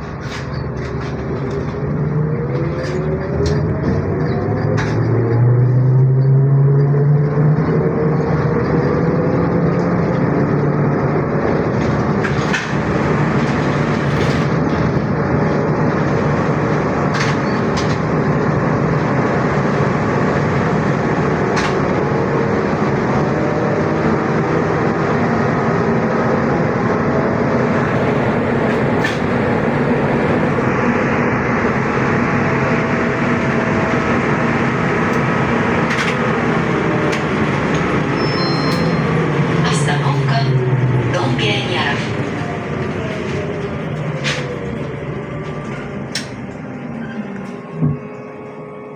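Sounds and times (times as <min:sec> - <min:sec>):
road noise: 0:00.0 - 0:48.9
traction motor whine: 0:01.2 - 0:41.2, 0:42.0 - 0:48.9.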